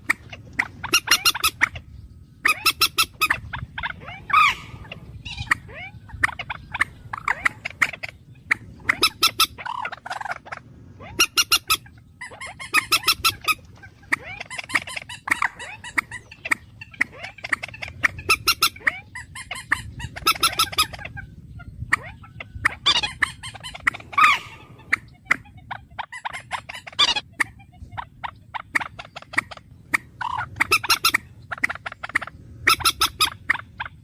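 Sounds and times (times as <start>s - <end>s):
bird harsh pulsed calls: 0.0s - 34.0s.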